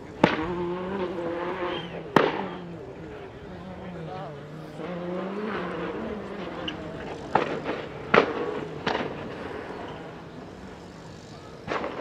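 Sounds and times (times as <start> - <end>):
distant rally car engine: 0.0 - 12.0
sharp exhaust bangs: 0.0 - 12.0.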